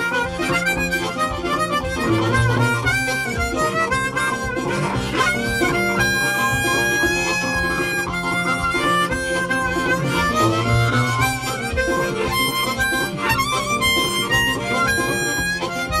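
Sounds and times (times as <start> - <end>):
bluesy harmonica tune: 0.0 - 16.0
guitar accompaniment: 0.0 - 16.0.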